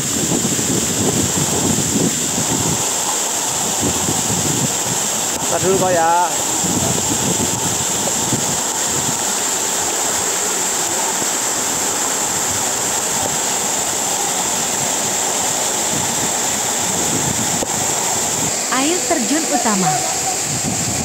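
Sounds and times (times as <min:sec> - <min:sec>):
waterfall splashing onto rocks: 0:00.0 - 0:21.0.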